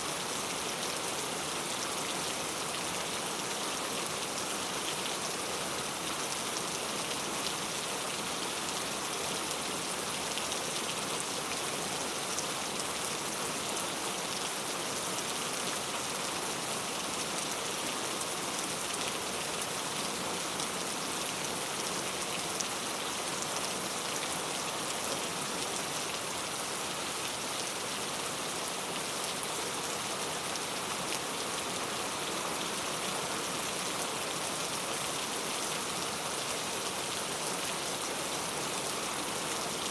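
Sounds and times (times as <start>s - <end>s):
heavy rain on street: 0.0s - 39.9s.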